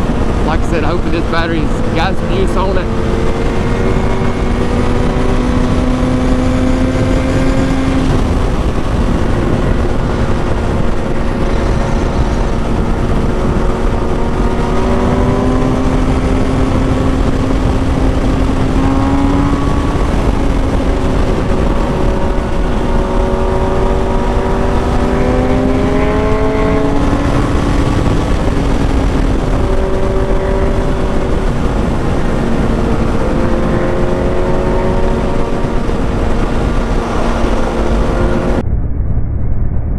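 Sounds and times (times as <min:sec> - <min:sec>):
motorcycle engine running: 0:00.0 - 0:38.6
wind rushing: 0:00.0 - 0:39.9.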